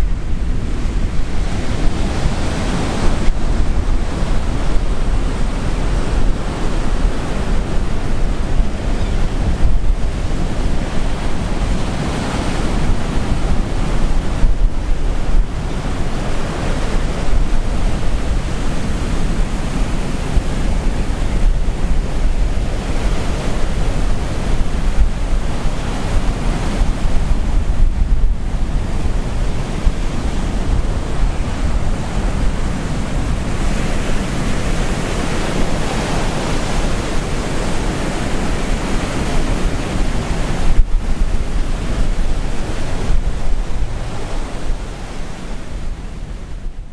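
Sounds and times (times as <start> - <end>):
waves breaking on beach: 0.0 - 46.9
wind buffeting microphone: 0.0 - 46.9.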